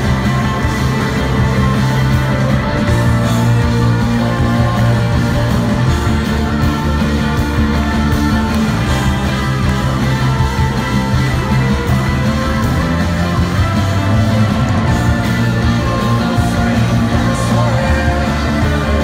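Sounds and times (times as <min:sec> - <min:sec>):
drums: 0:00.0 - 0:19.0
guitars: 0:00.0 - 0:19.0
low bass notes: 0:00.0 - 0:19.0.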